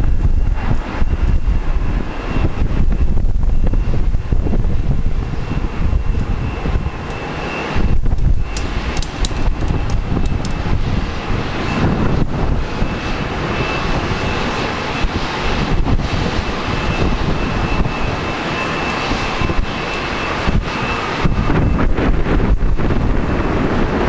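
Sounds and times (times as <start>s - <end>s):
aircraft engine whine: 0.0s - 24.0s
wind buffeting microphone: 0.0s - 24.0s.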